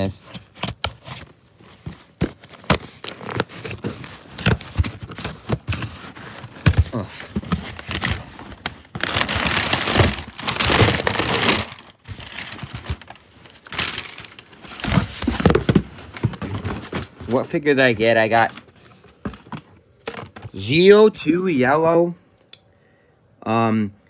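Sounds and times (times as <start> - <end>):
cardboard box rustling: 0.0 - 20.5.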